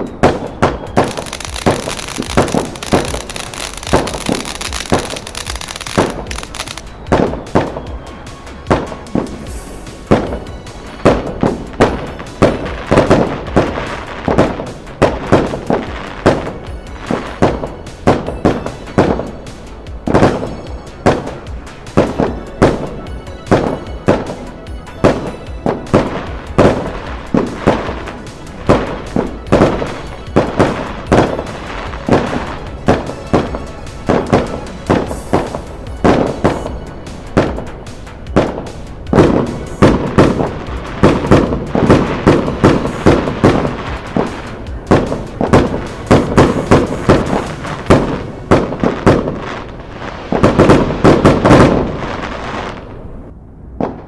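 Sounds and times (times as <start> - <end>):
music playing: 0.0 - 53.1
fireworks bangs: 0.0 - 54.0.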